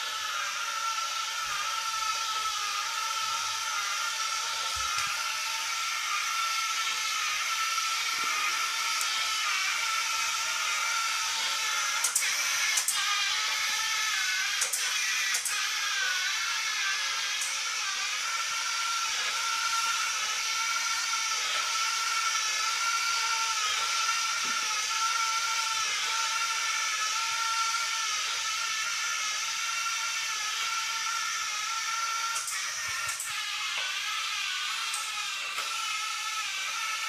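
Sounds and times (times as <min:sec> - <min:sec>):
robot vacuum motor whine: 0:00.0 - 0:37.0.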